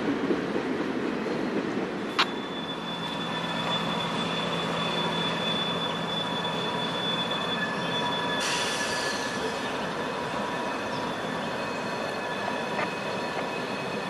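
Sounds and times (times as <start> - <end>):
steel wheel squeal: 2.2 - 14.0.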